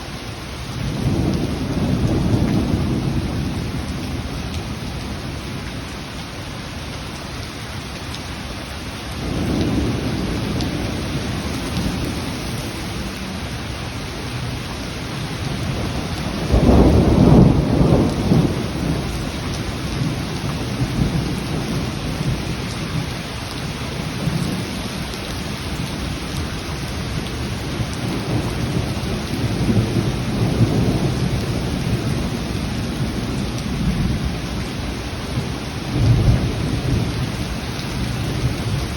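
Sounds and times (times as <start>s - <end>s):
heavy rain: 0.0s - 38.9s
thunder rumbling: 0.8s - 5.6s, 9.1s - 38.9s.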